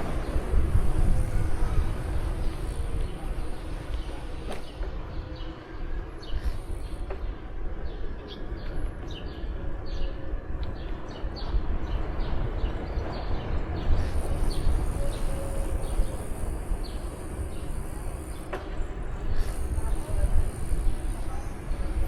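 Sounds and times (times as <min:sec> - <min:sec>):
birds chirping: 0:00.0 - 0:22.0
wind rumble on microphone: 0:00.0 - 0:22.0.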